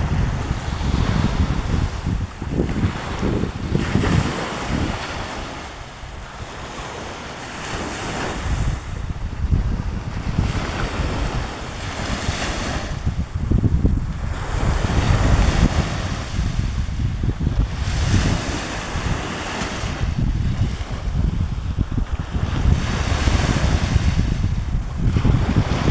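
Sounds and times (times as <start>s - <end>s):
waves washing onto beach: 0.0s - 25.9s
wind buffeting microphone: 0.0s - 25.9s.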